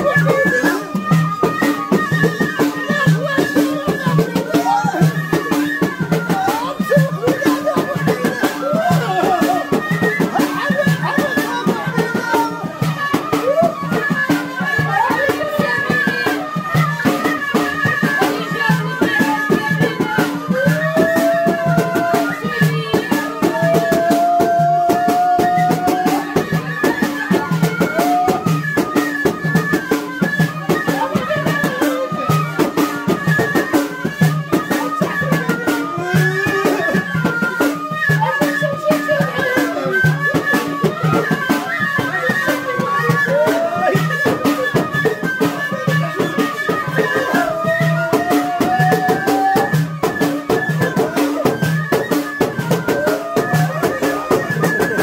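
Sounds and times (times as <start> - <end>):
rattling rhythmic percussion: 0.0 - 55.0
reed flutes playing melody: 0.0 - 55.0.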